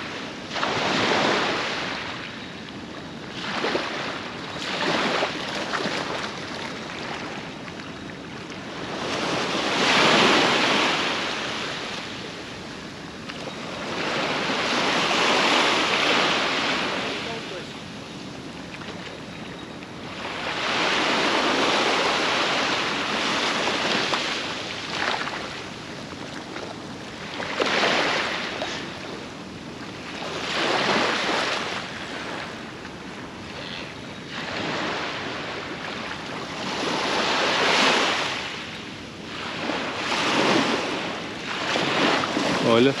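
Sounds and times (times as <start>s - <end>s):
sea waves breaking on beach: 0.0s - 43.0s.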